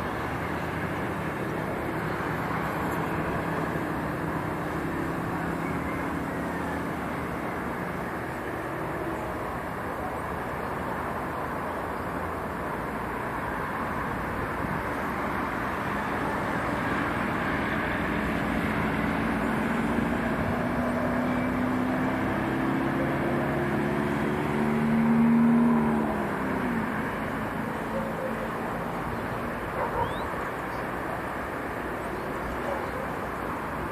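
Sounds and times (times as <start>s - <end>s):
road traffic noise: 0.0s - 33.9s
vehicle passing by: 0.0s - 33.9s.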